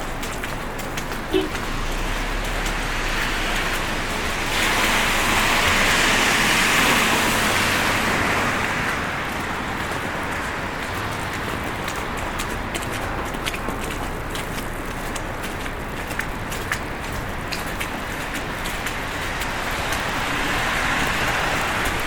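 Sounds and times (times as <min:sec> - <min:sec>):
vehicle tyres hissing on slush: 0:00.0 - 0:22.0.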